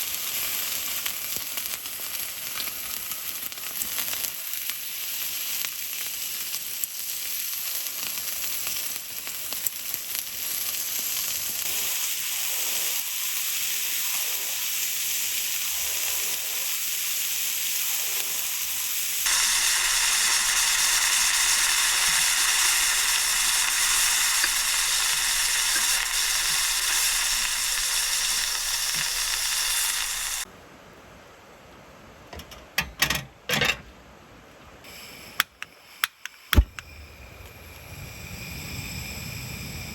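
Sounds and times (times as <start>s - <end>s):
food sizzling in a pan: 0.0s - 30.5s, 34.9s - 39.9s.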